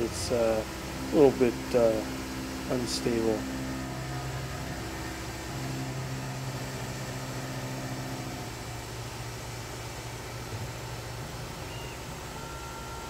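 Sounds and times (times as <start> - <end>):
milling machine humming: 0.0 - 13.0
mist coolant hiss: 0.0 - 13.0.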